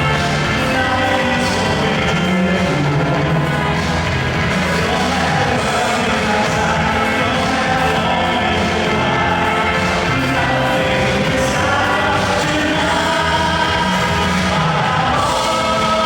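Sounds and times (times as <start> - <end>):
several voices singing music: 0.0 - 16.0.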